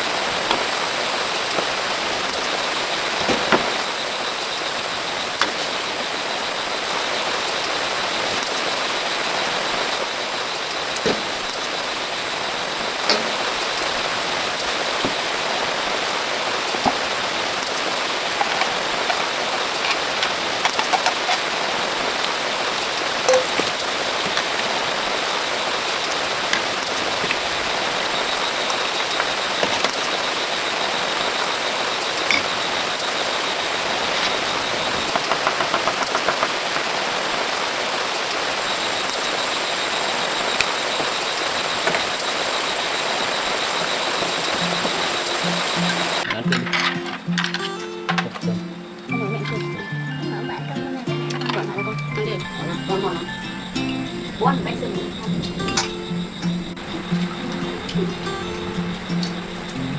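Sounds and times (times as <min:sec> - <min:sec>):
rain drips: 0:00.0 - 0:46.3, 0:52.2 - 0:59.9
steady rain falling: 0:00.0 - 0:47.5, 0:52.4 - 0:59.9.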